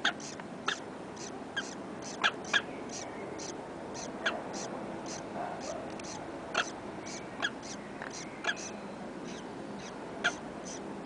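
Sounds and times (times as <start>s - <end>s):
short high bird calls: 0.0s - 10.8s.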